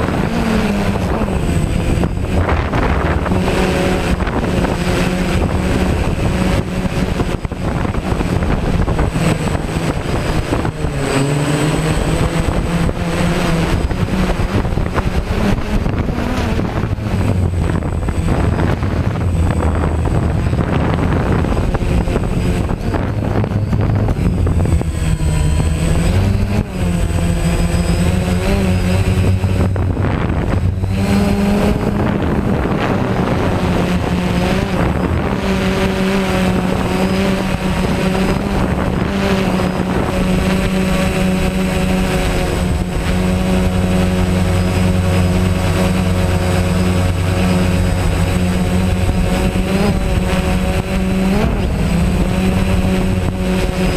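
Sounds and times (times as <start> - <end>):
drone propellers whining: 0.0 - 53.9.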